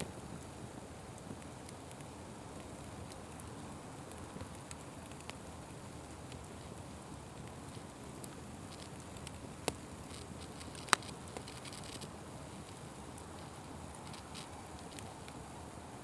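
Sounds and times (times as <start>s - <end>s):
fire crackles and pops: 0.0s - 16.0s
fire hissing: 0.0s - 16.0s.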